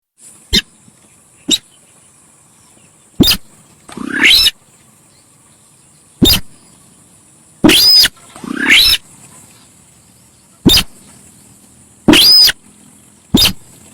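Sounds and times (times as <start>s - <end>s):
steady high hiss: 0.1s - 13.9s
bird harsh calls: 0.5s - 5.4s, 6.0s - 6.9s, 7.6s - 11.4s, 12.1s - 13.9s.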